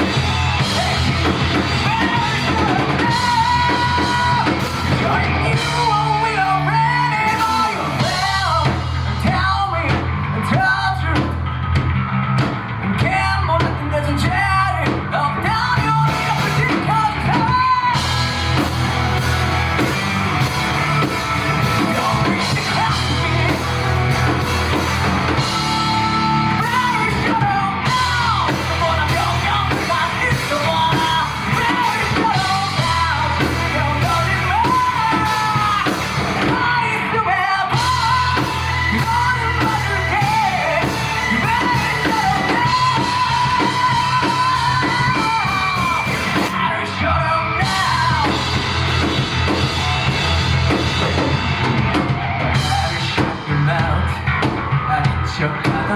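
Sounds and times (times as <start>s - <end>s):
man singing and yelling: 0.0s - 11.4s, 13.0s - 55.9s
live rock band playing: 0.0s - 55.9s.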